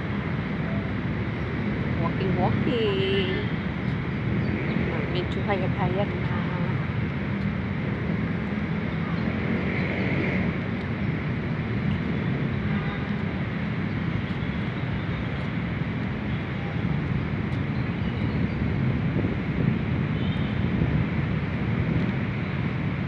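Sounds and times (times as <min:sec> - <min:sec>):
outdoor background rumble: 0:00.0 - 0:23.0.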